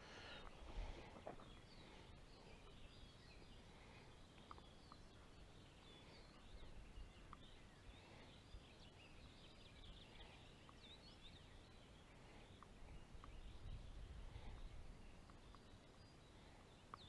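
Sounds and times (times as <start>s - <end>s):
faint songbirds chirping: 0.0s - 17.0s.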